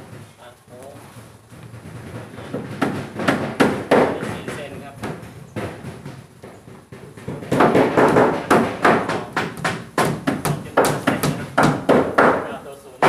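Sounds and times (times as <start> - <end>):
hammer tapping nails into wood: 2.1 - 12.6.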